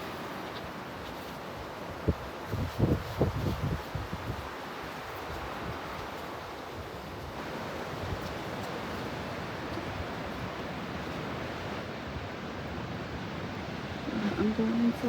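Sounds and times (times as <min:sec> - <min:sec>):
storm wind rushing through woods: 0:00.0 - 0:15.0.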